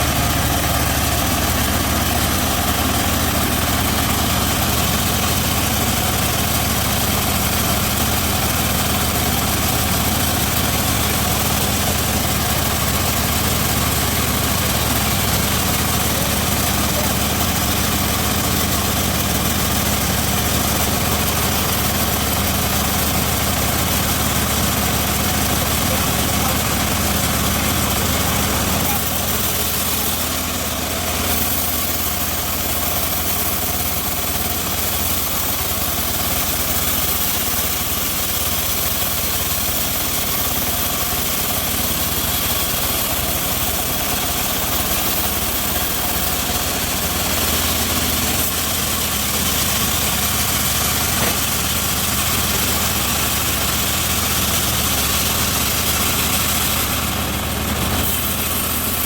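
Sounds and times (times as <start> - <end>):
bandsaw mill droning: 0.0 - 59.0.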